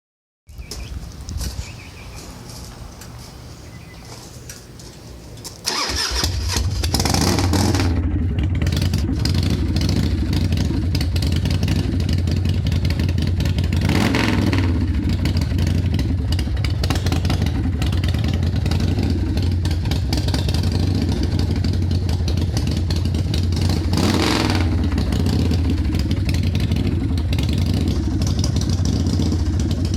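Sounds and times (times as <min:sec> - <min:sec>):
motorcycle engine starting and idling: 0:01.7 - 0:29.9.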